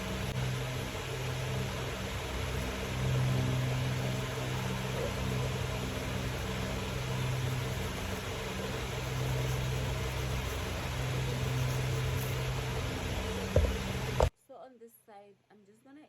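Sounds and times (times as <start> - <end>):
electric fan running: 0.0 - 14.3.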